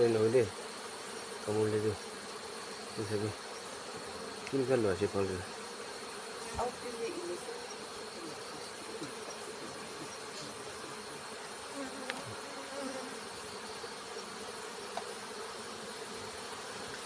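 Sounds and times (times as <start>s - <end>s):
honeybees buzzing: 0.0s - 17.0s
single bee buzzing close by: 0.0s - 17.0s.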